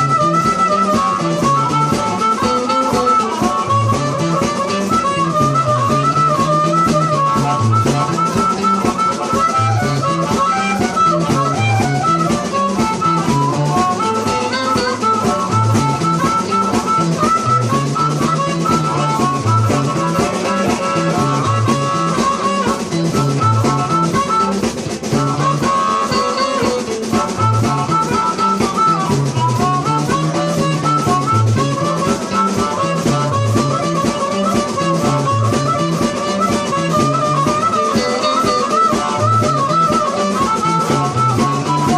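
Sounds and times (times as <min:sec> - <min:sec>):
drum kit beat: 0:00.0 - 0:41.9
guitar: 0:00.0 - 0:41.9
instrumental blues music: 0:00.0 - 0:41.9
stepping bass line: 0:00.0 - 0:41.9.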